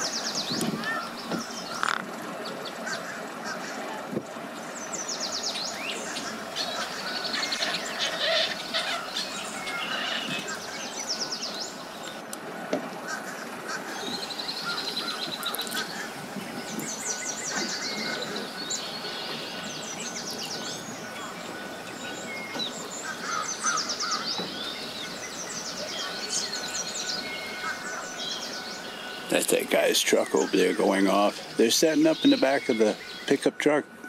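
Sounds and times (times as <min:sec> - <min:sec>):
birds calling rapidly: 0:00.0 - 0:34.0
outdoor background hiss: 0:00.0 - 0:34.0.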